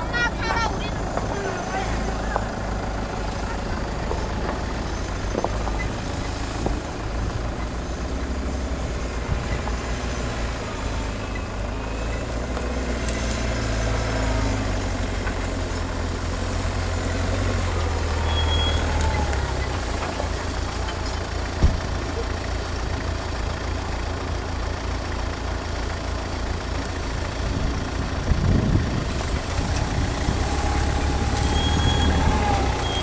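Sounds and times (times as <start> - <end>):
suv engine rumbling at low revs: 0.0 - 33.0.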